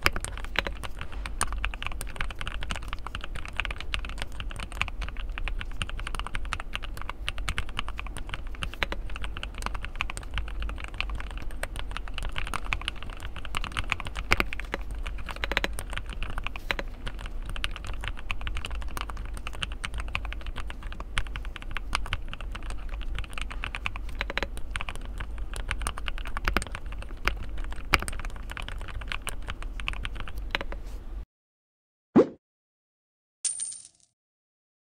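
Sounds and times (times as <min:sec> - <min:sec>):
fast mechanical keyboard typing: 0:00.0 - 0:30.8.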